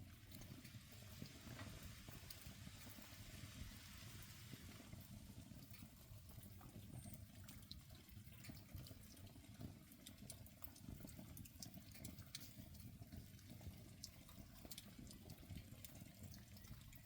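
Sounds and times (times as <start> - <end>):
campfire burning: 0.0 - 17.0
fire pops and crackles: 0.0 - 17.0.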